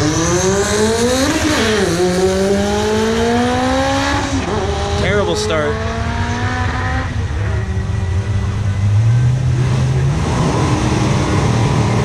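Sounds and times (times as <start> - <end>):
drag racing car engines: 0.0 - 12.0.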